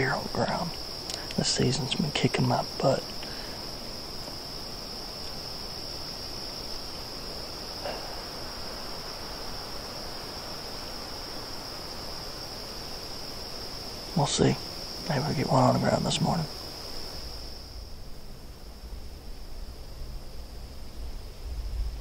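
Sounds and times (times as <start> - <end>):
insect chorus trilling: 0.0 - 22.0
wind through trees: 0.0 - 22.0.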